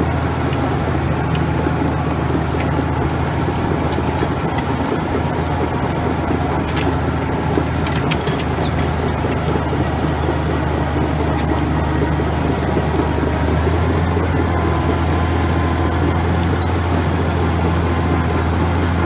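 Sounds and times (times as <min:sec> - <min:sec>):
clicks and rattles from tracks: 0:00.0 - 0:19.0
diesel engine running under load: 0:00.0 - 0:19.0.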